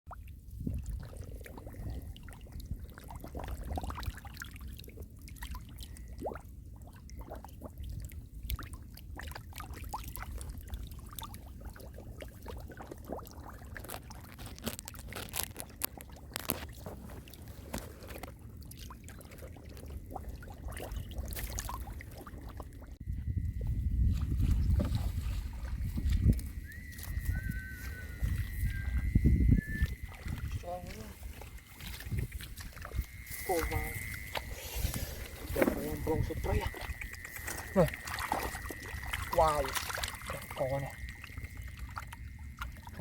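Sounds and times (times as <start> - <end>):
muddy water splashing: 0.1 - 43.0.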